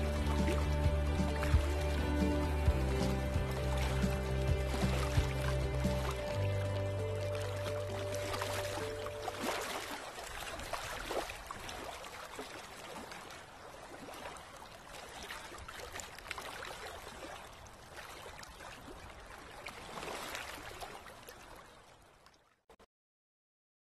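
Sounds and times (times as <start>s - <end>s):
river water rushing: 0.0s - 22.1s.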